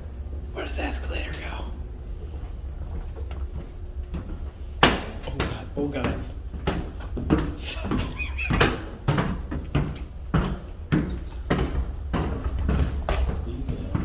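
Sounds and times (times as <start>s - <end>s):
steady low hum: 0.0s - 14.0s
footsteps: 1.4s - 14.0s.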